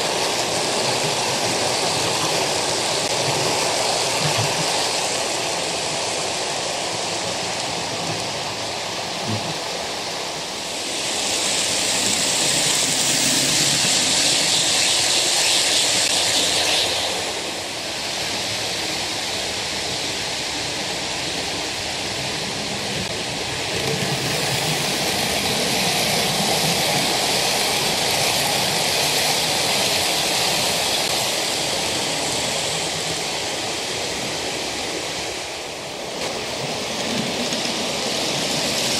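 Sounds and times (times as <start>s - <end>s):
model train wheels rolling: 0.0s - 38.9s.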